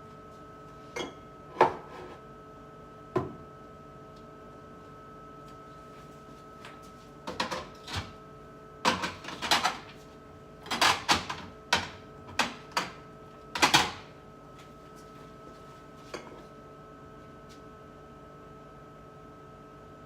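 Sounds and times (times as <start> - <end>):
refrigerator hum: 0.0 - 20.0.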